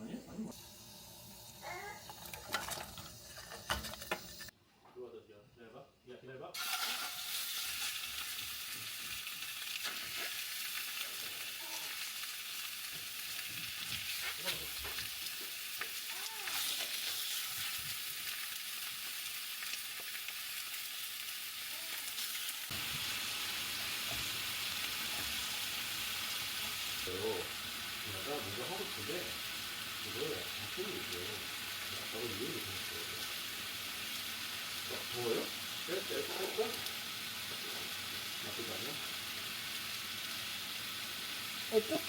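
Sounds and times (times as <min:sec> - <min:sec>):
food sizzling in a frying pan: 0:00.1 - 0:04.5, 0:06.6 - 0:42.0.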